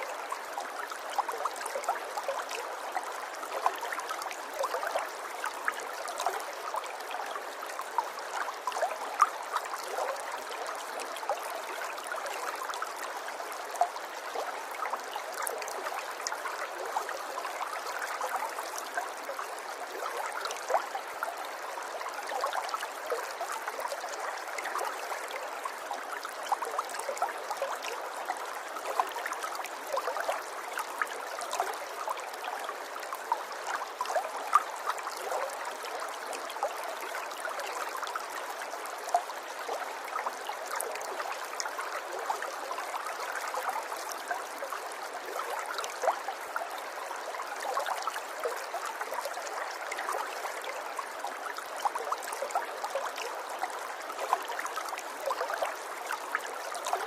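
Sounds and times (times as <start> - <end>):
river water babbling over stones: 0.0 - 57.0.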